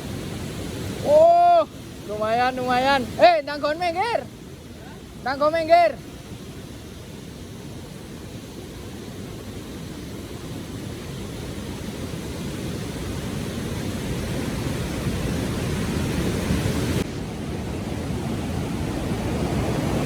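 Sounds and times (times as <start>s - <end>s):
waterfall and rushing river: 0.0s - 20.0s.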